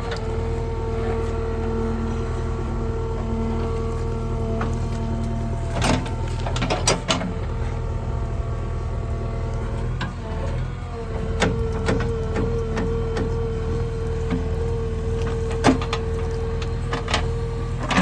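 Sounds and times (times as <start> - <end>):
diesel engine running: 0.0 - 18.0
hydraulic whine: 0.0 - 18.0.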